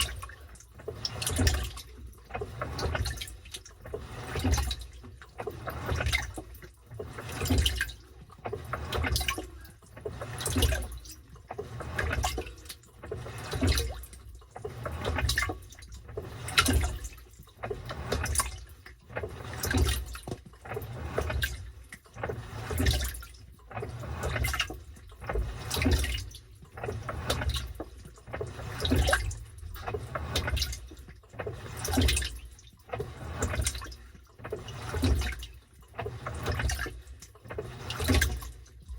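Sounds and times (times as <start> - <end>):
washing machine water sloshing: 0.0 - 38.9.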